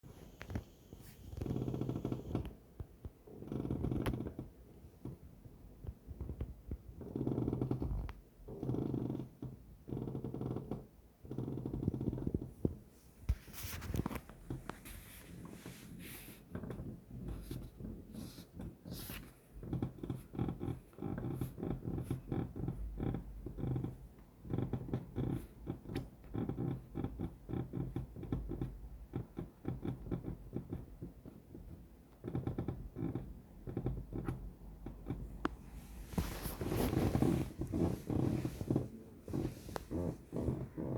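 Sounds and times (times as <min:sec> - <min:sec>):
chair crackling and creaking: 0:00.1 - 0:05.2, 0:05.8 - 0:40.9.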